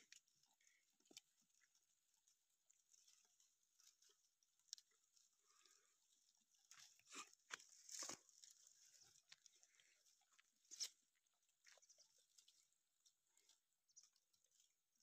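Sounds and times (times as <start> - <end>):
dry twigs and leaves crackling: 0.0 - 15.0.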